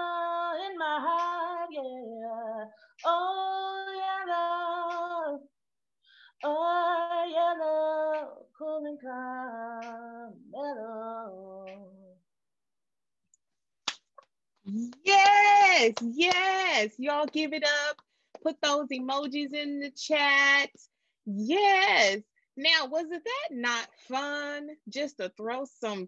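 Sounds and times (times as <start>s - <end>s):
woman singing: 0.0s - 5.6s, 6.4s - 12.2s, 14.7s - 20.7s, 21.3s - 26.0s.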